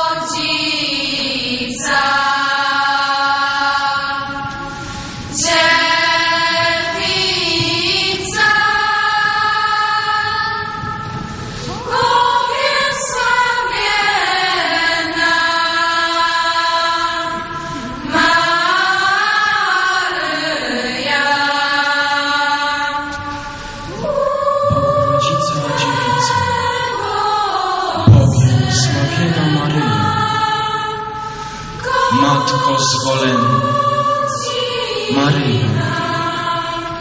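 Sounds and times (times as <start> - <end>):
children's choir singing: 0.0 - 37.0.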